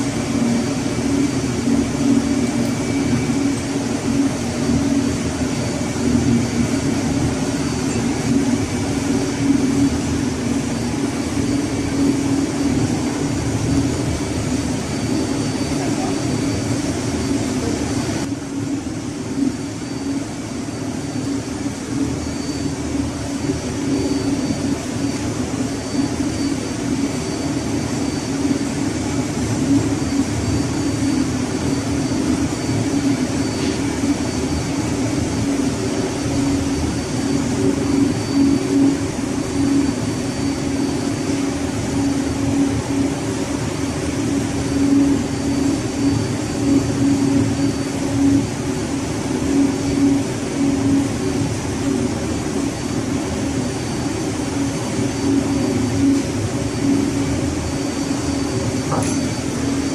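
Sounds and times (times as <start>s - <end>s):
thin high whine: 0.0s - 59.9s.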